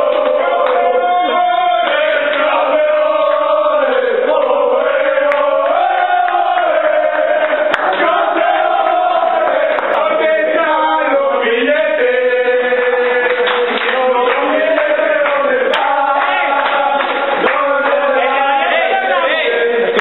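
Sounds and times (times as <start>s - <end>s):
young men chanting and singing: 0.0s - 20.0s.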